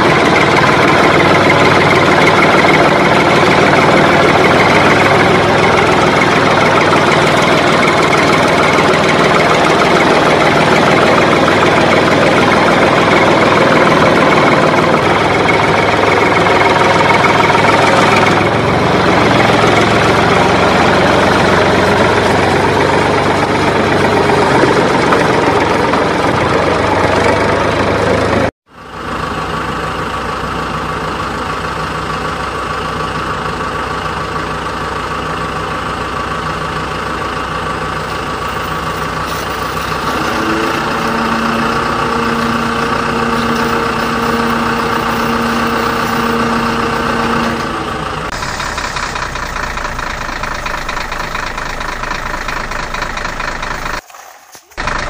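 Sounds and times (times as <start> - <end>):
motor engine running: 0.0 - 55.0.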